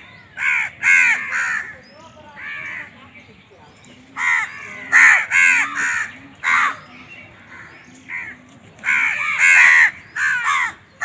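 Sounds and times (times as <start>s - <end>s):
crows cawing: 0.4s - 3.0s, 4.2s - 11.0s.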